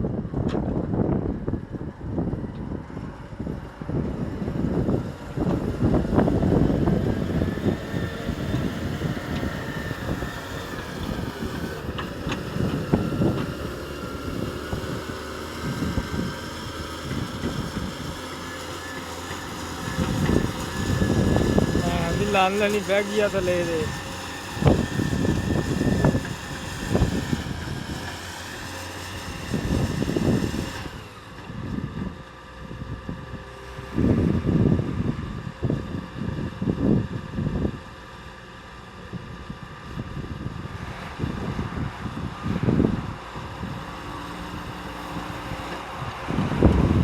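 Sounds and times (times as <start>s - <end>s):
wind buffeting microphone: 0.0s - 38.0s, 39.0s - 47.0s
vehicle engine running: 0.0s - 47.0s.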